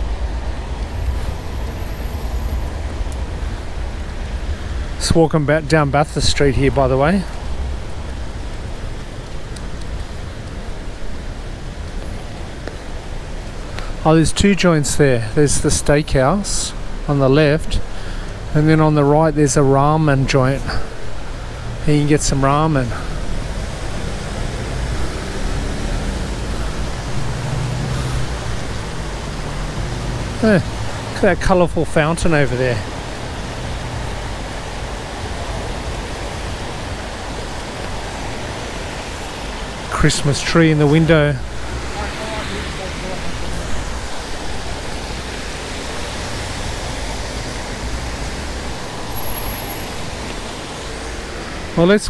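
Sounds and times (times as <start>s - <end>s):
rain and tyres on wet street: 0.0s - 52.0s
traffic engine hum: 0.0s - 52.0s.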